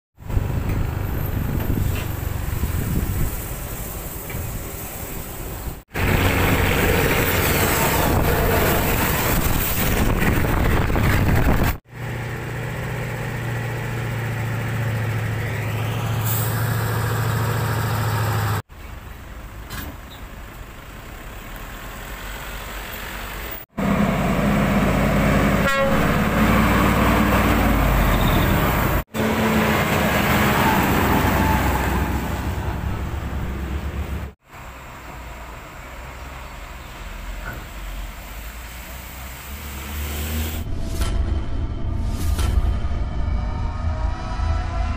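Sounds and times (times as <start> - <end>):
diesel trucks passing: 0.2 - 41.4.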